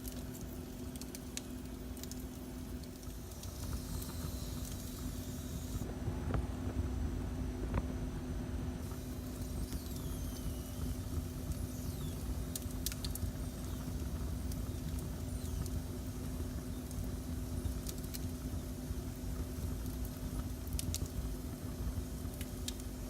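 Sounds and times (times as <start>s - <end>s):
fire crackles and pops: 0.0s - 5.9s, 8.9s - 23.0s
constant hum: 0.0s - 23.0s.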